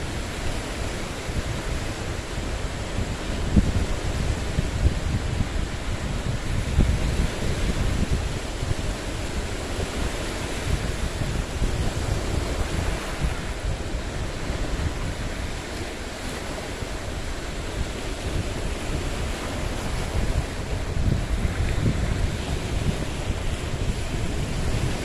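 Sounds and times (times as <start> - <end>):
lake waves washing on boulders: 0.0 - 25.0
wind buffeting microphone: 0.0 - 25.0.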